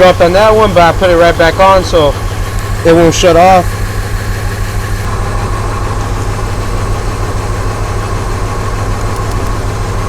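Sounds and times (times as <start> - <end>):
truck engine idling with misfire: 0.0 - 10.0.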